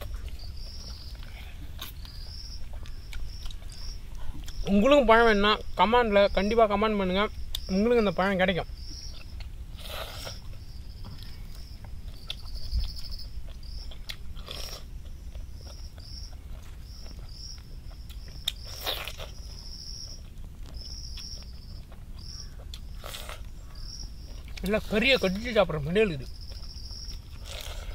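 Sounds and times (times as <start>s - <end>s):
fruit being bitten and chewed: 0.0s - 5.9s, 7.3s - 8.0s, 8.7s - 27.9s
insects chirping in trills: 0.0s - 27.9s.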